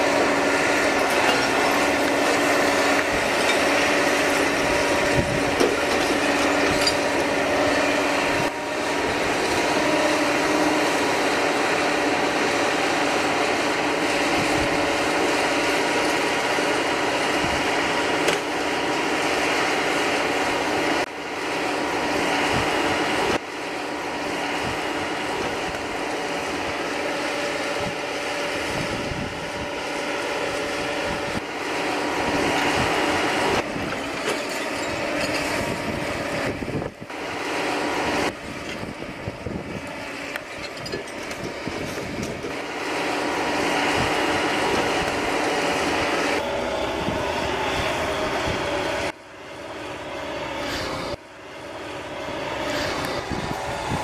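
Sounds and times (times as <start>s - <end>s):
excavator diesel engine and hydraulics: 0.0s - 54.0s.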